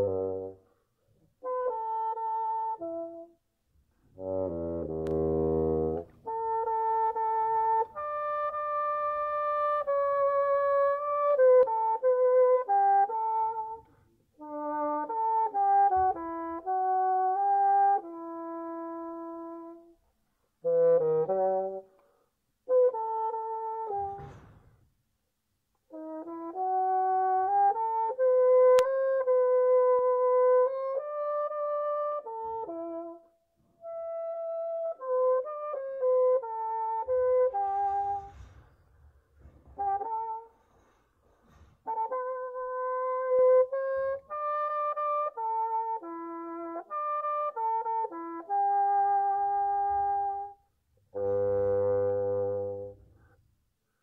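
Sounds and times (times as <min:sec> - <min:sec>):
bassoon playing: 0:00.0 - 0:00.8, 0:01.4 - 0:03.4, 0:04.0 - 0:20.0, 0:20.6 - 0:24.6, 0:25.9 - 0:53.4.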